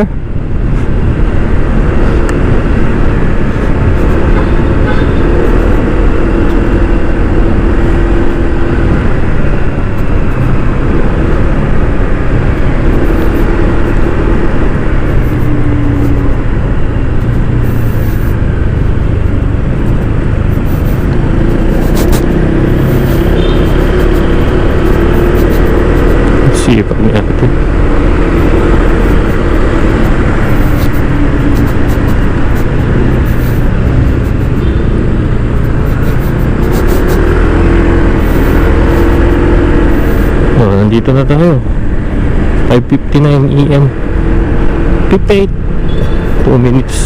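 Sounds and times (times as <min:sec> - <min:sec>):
scooter engine hum: 0:00.0 - 0:40.9
tyre noise on road: 0:00.0 - 0:47.0
wind noise on microphone: 0:00.3 - 0:26.5, 0:27.4 - 0:40.6.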